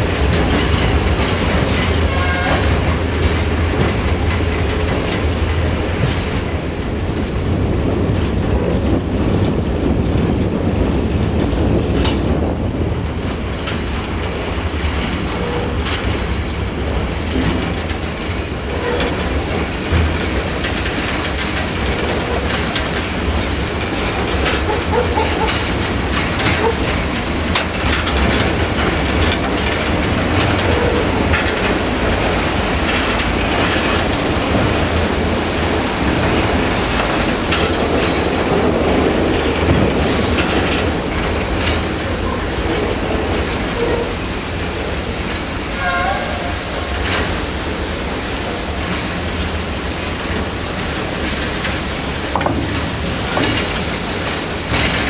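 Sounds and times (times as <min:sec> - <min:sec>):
freight wagons rumbling: 0:00.0 - 0:55.0.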